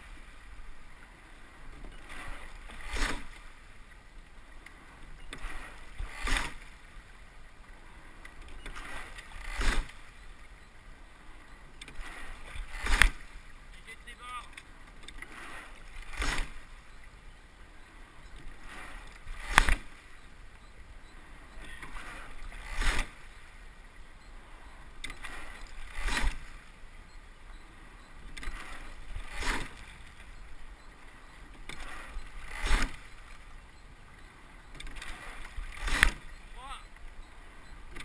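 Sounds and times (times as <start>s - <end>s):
oars clunking in oarlocks: 0.0s - 38.0s
water rushing along hull: 0.0s - 38.0s.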